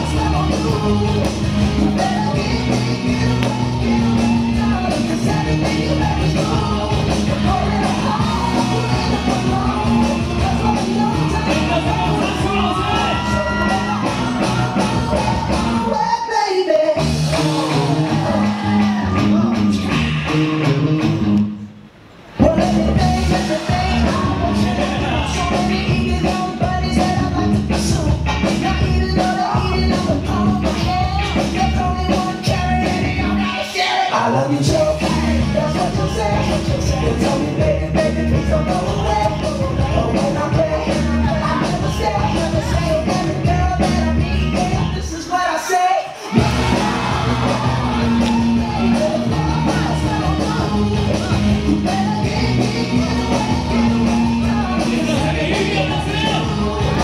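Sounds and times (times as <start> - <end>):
loud music with bass and beat: 0.0 - 21.7, 22.4 - 57.0.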